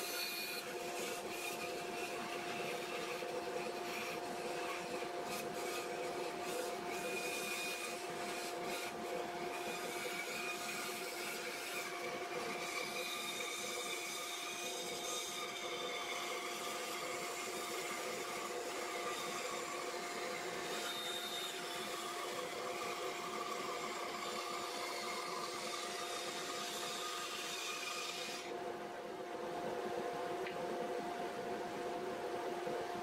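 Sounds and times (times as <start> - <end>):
bandsaw motor hum: 0.0 - 31.0.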